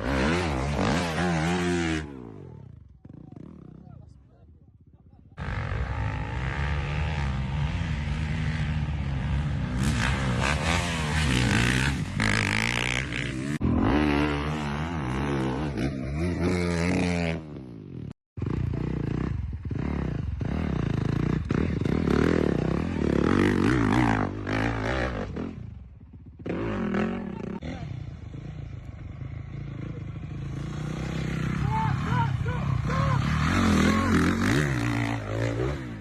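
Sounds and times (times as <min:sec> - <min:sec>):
dirt bike engine revving: 0:00.0 - 0:03.8, 0:05.4 - 0:36.0.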